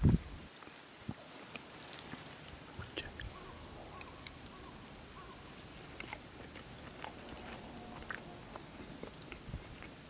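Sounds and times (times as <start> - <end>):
faint chewing: 0.6 - 10.0.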